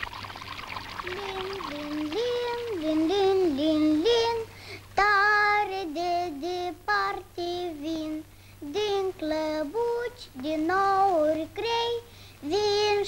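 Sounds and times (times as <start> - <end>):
child singing: 1.0 - 13.0.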